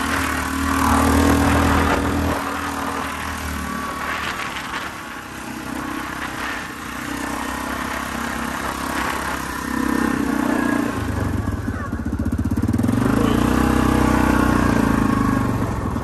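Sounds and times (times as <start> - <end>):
atv engine under load: 0.0 - 16.0.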